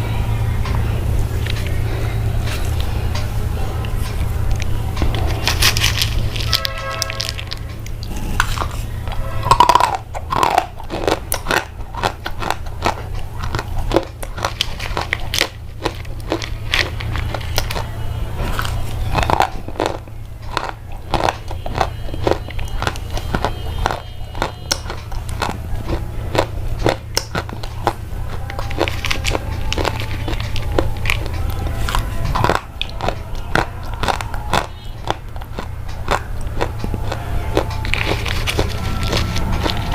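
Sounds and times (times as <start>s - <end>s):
steady low hum: 0.0s - 39.9s
close crunching and crackling clicks: 2.5s - 39.9s.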